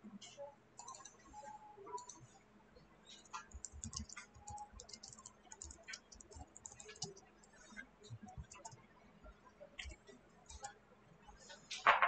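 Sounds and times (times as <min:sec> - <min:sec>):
faint keyboard typing: 0:00.2 - 0:02.3, 0:03.1 - 0:10.8.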